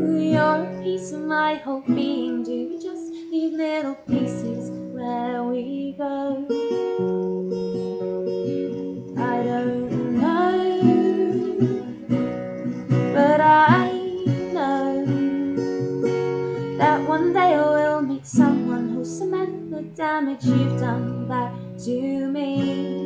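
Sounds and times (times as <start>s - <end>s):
woman singing: 0.0s - 7.1s, 9.1s - 23.0s
acoustic guitar strumming: 0.0s - 23.0s.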